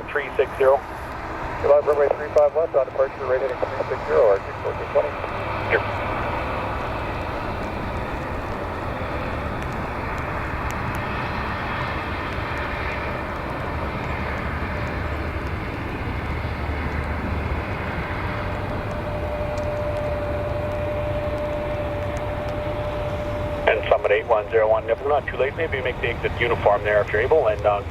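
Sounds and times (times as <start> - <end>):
airliner engine rumble: 0.0 - 27.9.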